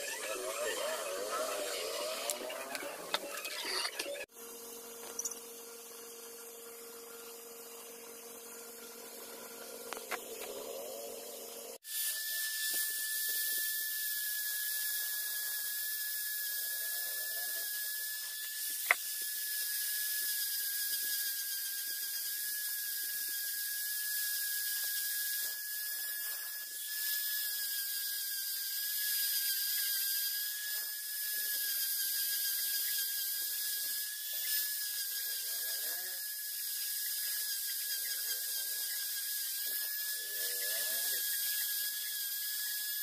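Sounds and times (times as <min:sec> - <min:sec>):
rotary tool cutting disc whine: 0:00.0 - 0:43.0.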